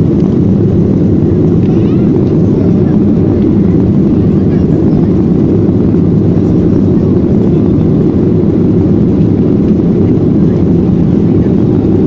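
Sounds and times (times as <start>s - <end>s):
airplane cabin jet engine rumble: 0.0s - 12.0s.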